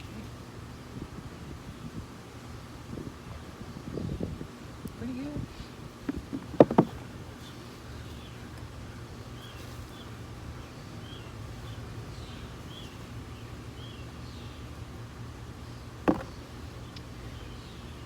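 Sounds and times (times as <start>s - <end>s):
songbird chirping: 3.2s - 18.0s.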